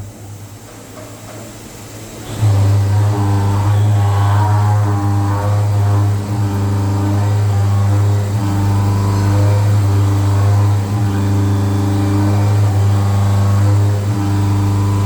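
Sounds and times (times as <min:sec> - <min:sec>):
milling machine motor hum: 0:01.8 - 0:15.0.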